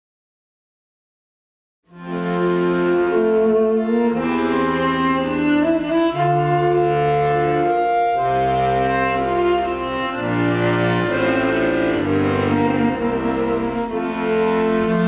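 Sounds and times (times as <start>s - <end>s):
viola and accordion chords: 1.9s - 15.0s.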